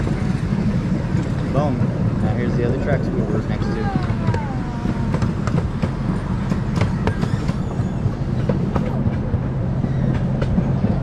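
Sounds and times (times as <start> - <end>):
miniature train rumbling: 0.0 - 11.0
wheels clicking on rails: 0.0 - 11.0.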